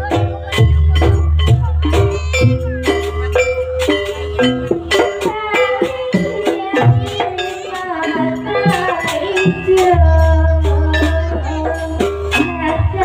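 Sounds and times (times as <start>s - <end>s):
percussion strikes: 0.0s - 13.0s.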